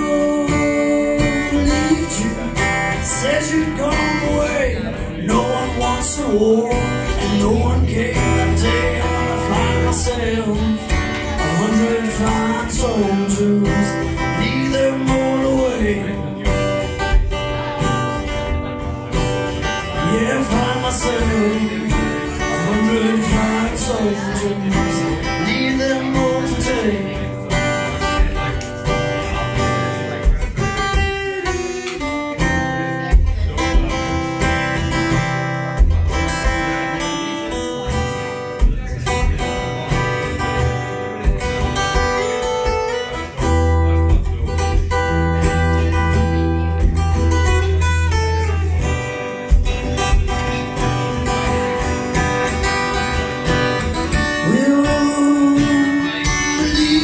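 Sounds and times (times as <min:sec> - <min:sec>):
acoustic guitar strumming: 0:00.0 - 0:57.0
man singing wordless notes: 0:00.0 - 0:57.0.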